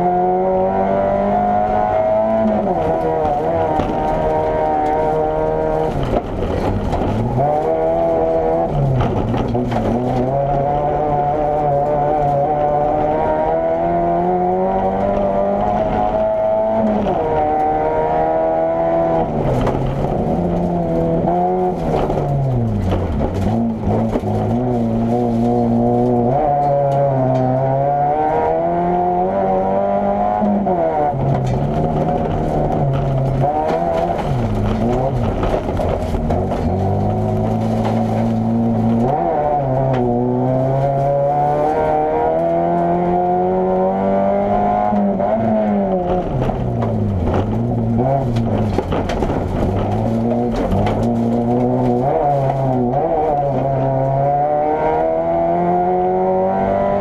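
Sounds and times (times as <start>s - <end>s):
car engine revving hard: 0.0s - 57.0s.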